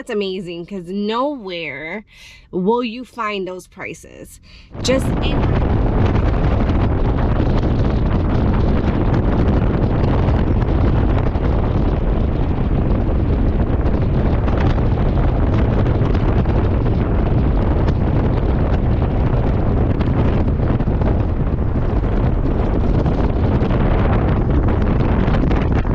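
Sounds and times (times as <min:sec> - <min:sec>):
wind buffeting microphone: 0:04.5 - 0:25.9.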